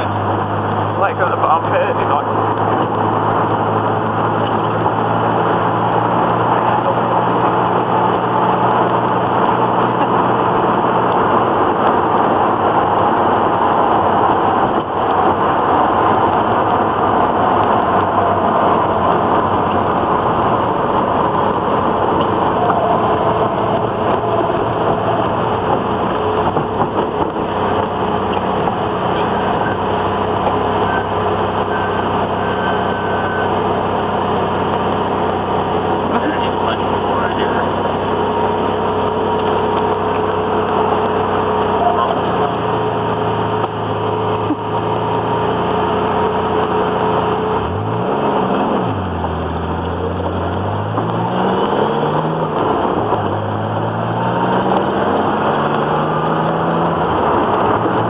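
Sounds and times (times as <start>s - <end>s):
car engine running: 0.0s - 58.0s
road noise inside car: 0.0s - 58.0s.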